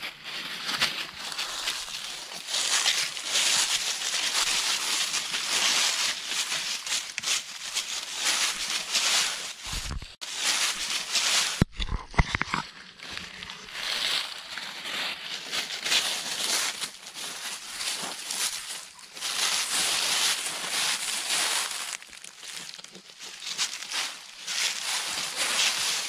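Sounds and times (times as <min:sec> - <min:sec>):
dry leaves crunching underfoot: 0:00.0 - 0:11.7, 0:12.6 - 0:26.0.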